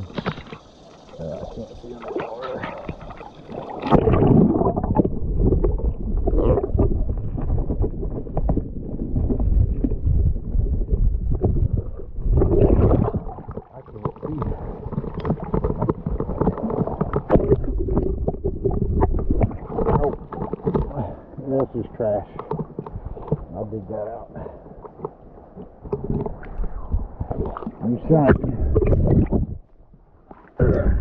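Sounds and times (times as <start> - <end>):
muffled river water gurgling: 0.0 - 31.0.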